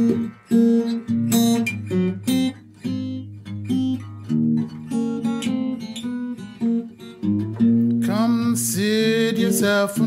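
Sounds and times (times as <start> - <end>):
acoustic blues guitar: 0.0 - 10.0.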